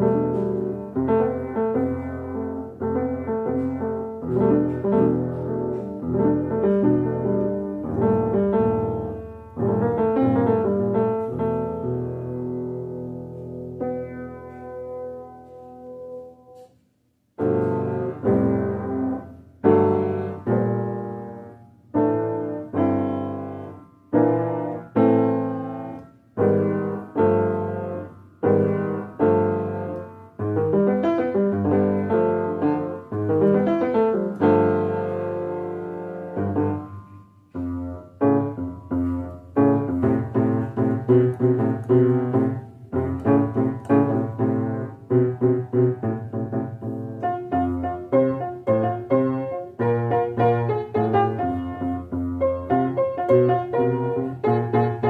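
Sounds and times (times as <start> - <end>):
piano chords ringing: 0.0 - 55.0.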